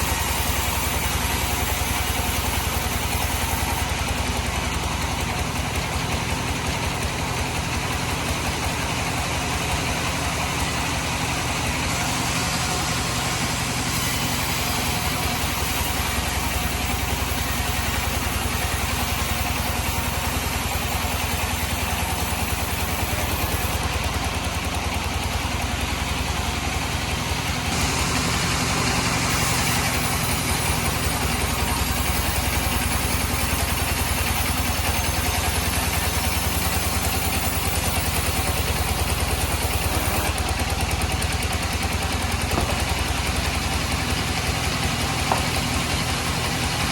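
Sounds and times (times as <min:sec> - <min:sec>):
sawmill droning: 0:00.0 - 0:46.9.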